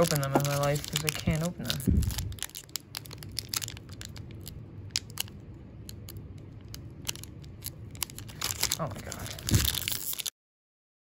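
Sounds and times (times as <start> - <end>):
foil wrapper crinkling: 0.0 - 10.3.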